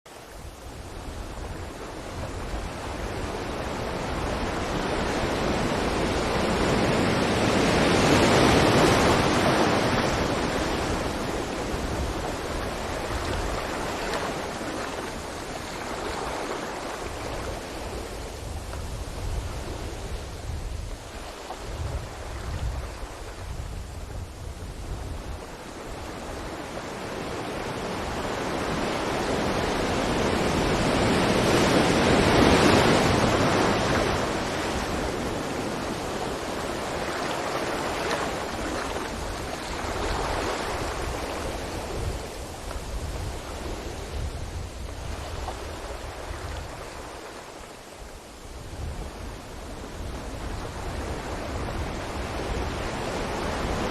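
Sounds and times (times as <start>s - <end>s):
ocean waves crashing on beach: 0.1s - 53.9s.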